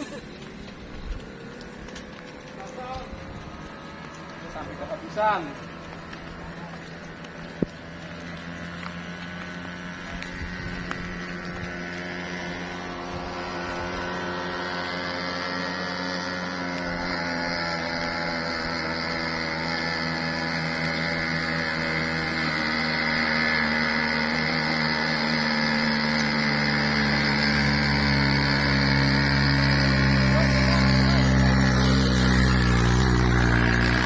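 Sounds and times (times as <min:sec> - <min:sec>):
vehicle engine approaching: 0:00.0 - 0:34.0.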